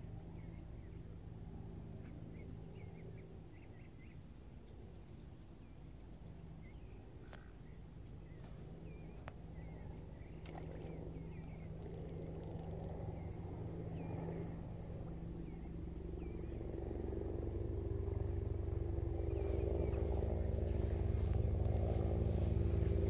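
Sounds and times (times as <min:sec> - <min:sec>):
steady low hum: 0:00.0 - 0:23.0
small birds chirping: 0:02.0 - 0:17.0, 0:19.1 - 0:23.0.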